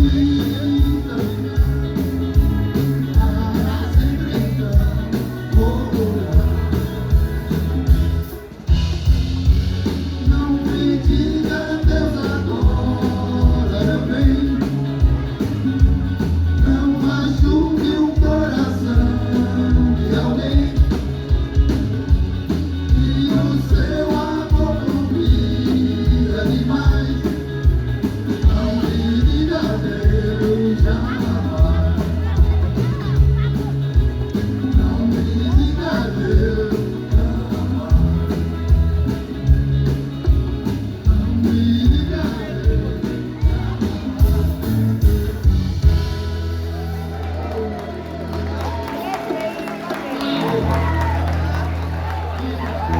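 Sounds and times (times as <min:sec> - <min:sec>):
lead singer singing: 0:00.0 - 0:46.1
live band playing: 0:00.0 - 0:52.9.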